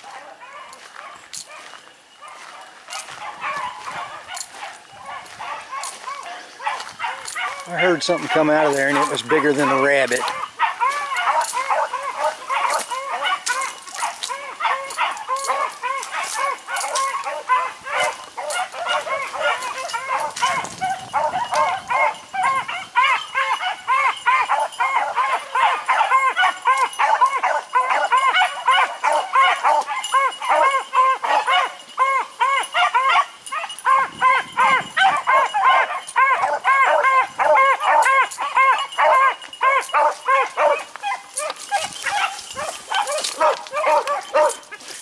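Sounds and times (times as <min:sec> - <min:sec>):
hounds baying: 0:00.0 - 0:45.0.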